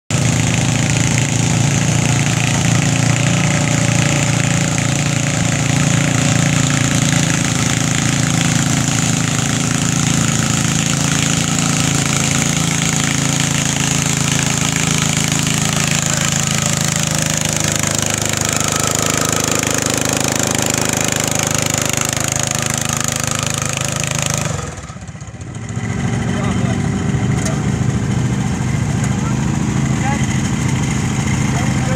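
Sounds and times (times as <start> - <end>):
tractor engine running hard: 0.1 - 31.9.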